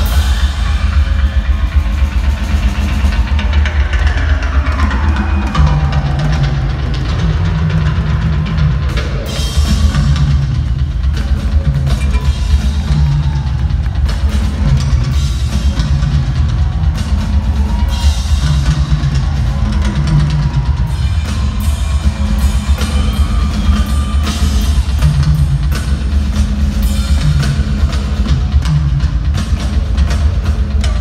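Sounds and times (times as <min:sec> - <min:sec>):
bass drum: 0:00.0 - 0:31.0
rolling tom fills: 0:00.0 - 0:31.0.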